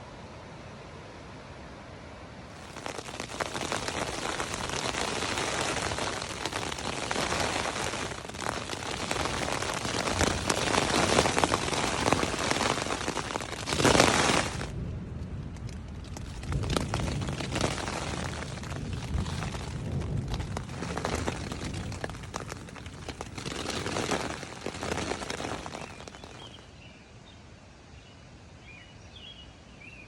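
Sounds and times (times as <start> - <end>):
heavy rain on tent fabric: 2.5 - 26.7.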